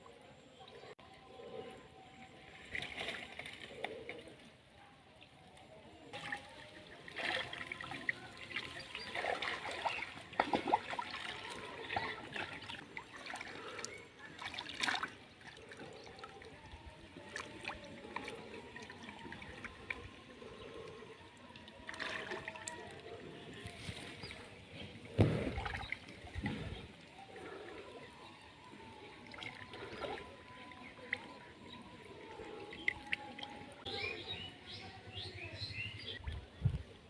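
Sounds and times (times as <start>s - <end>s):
water splashing and trickling: 2.3s - 37.0s.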